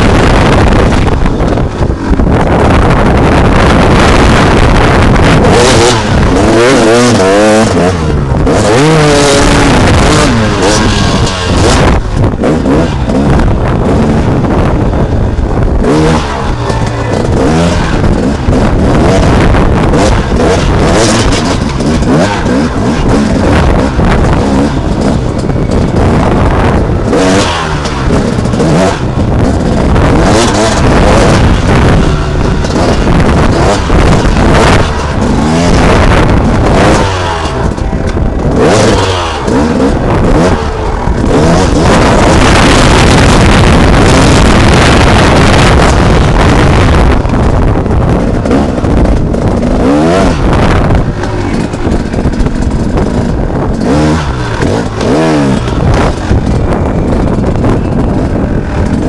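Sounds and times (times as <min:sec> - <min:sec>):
dirt bike engine revving: 0:00.0 - 0:59.0
track noise: 0:00.0 - 0:59.0
wind over microphone: 0:00.0 - 0:59.0.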